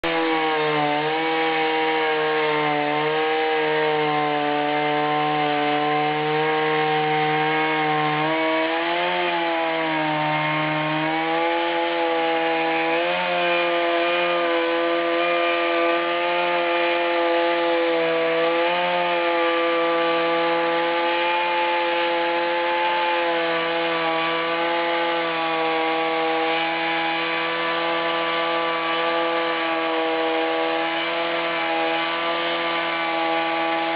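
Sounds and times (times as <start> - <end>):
chainsaw ripping through log: 0.0 - 33.9.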